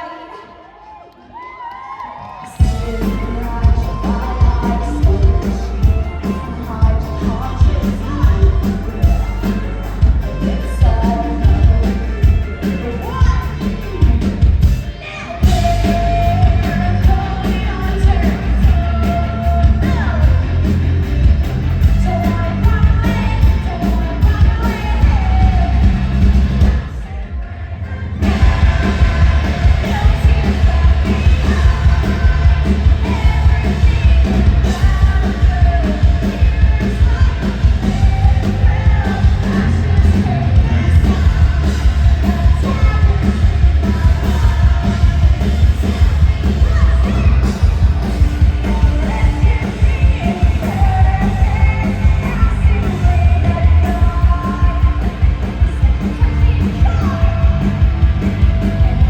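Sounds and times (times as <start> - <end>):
person singing: 2.4 - 20.8, 21.8 - 59.0
rock band playing live: 2.6 - 59.0.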